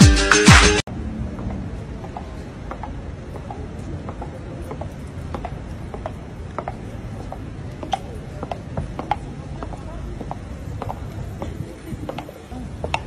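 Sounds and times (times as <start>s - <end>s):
low street rumble: 0.4s - 13.0s
hard footsteps on stone: 1.4s - 13.0s.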